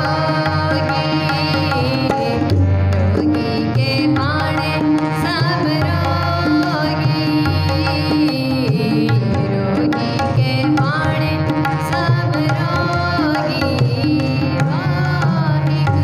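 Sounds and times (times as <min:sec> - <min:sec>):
harmonium tones: 0:00.0 - 0:16.0
tabla rhythm: 0:00.0 - 0:16.0.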